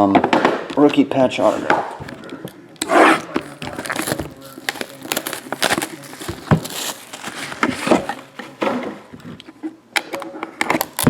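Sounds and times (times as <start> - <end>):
cards and plastic holders handled: 0.8 - 11.0.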